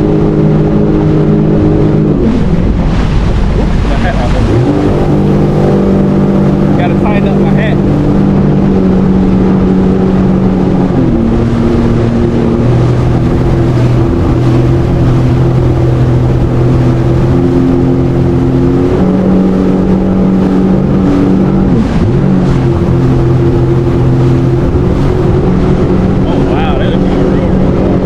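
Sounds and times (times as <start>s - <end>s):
jet ski engine running: 0.0s - 28.0s.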